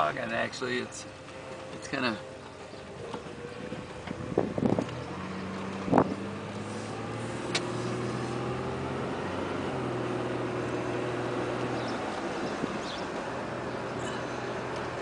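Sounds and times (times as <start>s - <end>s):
car engine hum from inside: 0.0s - 15.0s.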